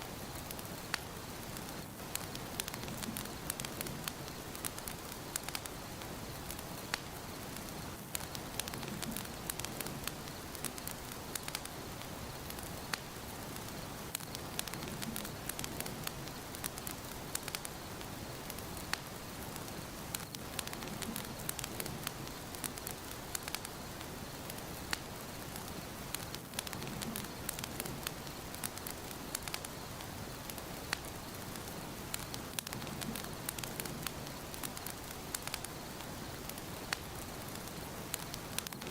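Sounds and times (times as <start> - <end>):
wood fire crackling: 0.0 - 38.9
fire pops and snaps: 0.1 - 38.9.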